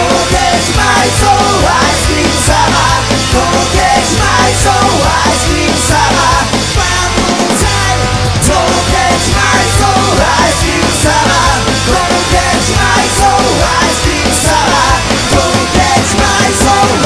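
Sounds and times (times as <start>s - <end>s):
rock song: 0.0s - 17.0s.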